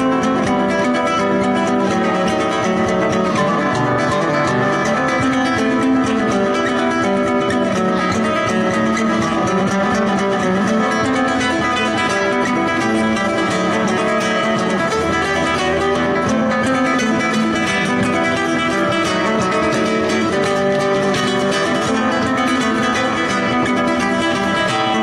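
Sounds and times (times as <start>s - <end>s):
guitar plucked and strummed: 0.0s - 25.0s.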